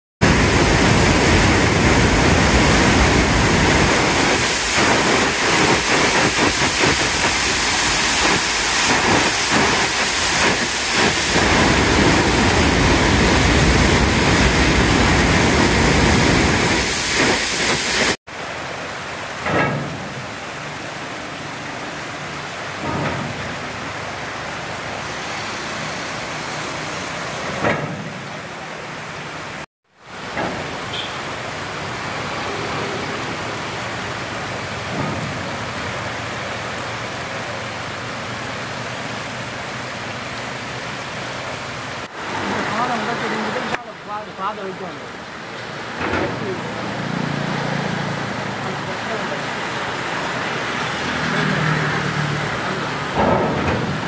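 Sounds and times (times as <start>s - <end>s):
loud rush of water: 0.2s - 54.0s.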